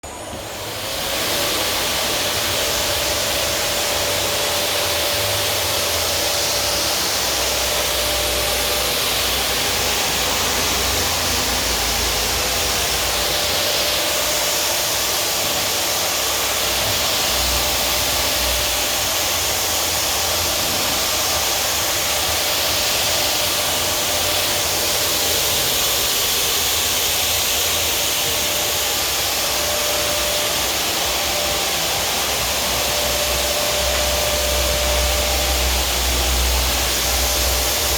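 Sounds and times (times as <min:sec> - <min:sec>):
air blower rushing: 0:00.0 - 0:37.9.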